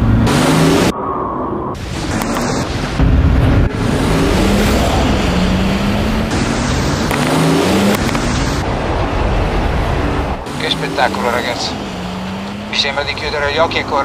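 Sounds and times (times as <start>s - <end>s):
car engine revving: 0.0s - 1.0s, 1.7s - 14.0s
tyre and dirt noise: 1.7s - 14.0s.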